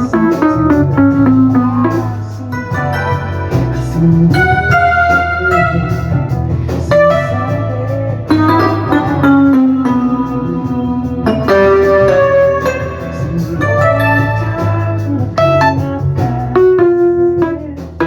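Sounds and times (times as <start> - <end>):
electric piano and organ music: 0.0 - 18.0
steady bass line: 0.0 - 18.0.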